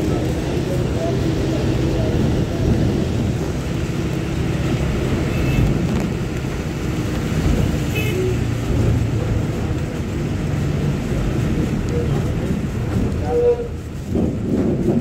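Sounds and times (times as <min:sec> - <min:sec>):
tyres on wet road: 0:00.0 - 0:15.0
vehicle engine hum: 0:00.0 - 0:15.0.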